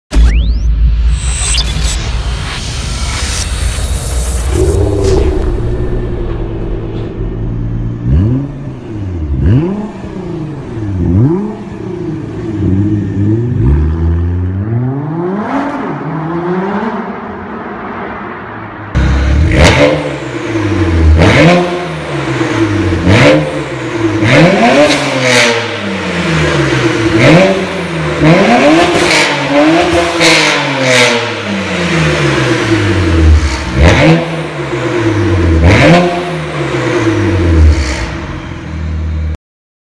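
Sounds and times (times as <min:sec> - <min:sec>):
car engine revving: 0:01.5 - 0:18.0, 0:18.9 - 0:39.3.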